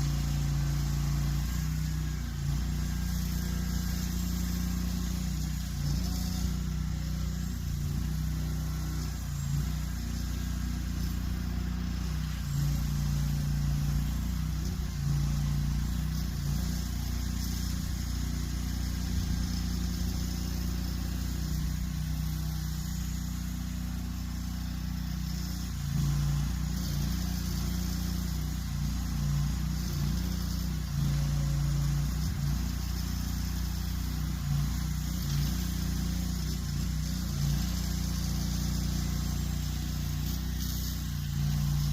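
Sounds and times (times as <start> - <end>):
mower engine running under load: 0.0 - 41.9.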